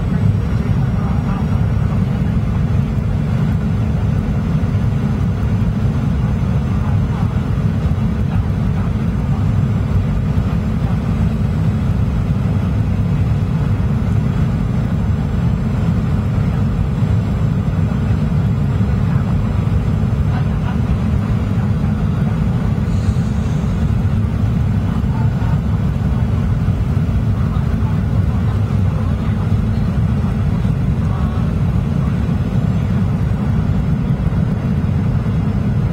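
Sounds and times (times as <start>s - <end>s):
jet engines rumbling: 0.0s - 35.9s
rushing airflow: 0.0s - 35.9s.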